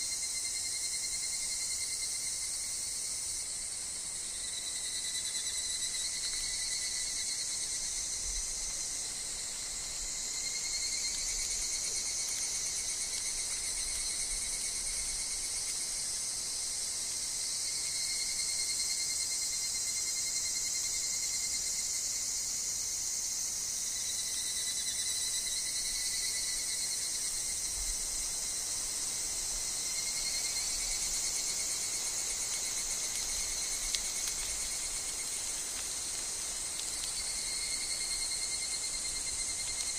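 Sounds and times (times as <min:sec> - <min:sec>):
chorus of insects: 0:00.0 - 0:39.9
evening cicadas calling: 0:00.0 - 0:39.9.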